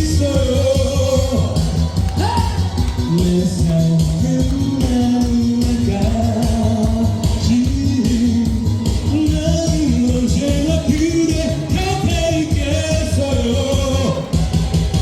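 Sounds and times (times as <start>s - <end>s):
person singing: 0.0s - 14.5s
backing music with bass beat: 0.0s - 15.0s.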